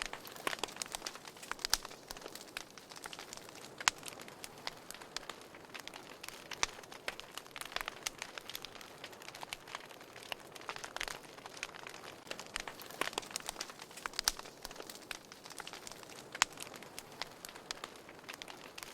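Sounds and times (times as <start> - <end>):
soft hiss of flame: 0.0 - 18.9
wood fire crackling and popping: 0.0 - 18.9.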